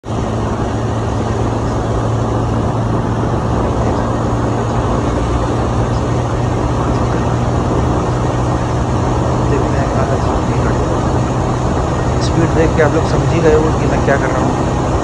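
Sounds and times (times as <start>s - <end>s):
motorcycle engine at high revs: 0.0s - 15.0s
wind noise on microphone: 0.0s - 15.0s.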